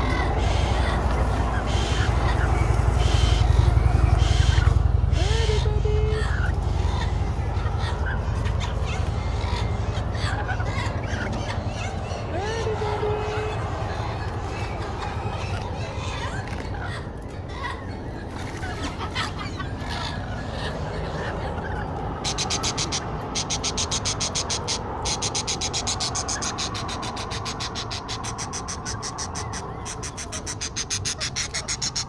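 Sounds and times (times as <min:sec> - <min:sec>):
lorikeets chattering: 0:00.0 - 0:32.0
low background rumble: 0:00.0 - 0:32.0.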